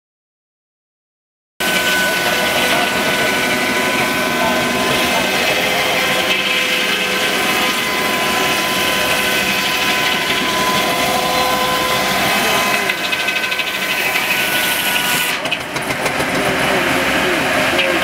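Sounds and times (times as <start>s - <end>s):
circular saw blade whine: 1.6s - 18.0s.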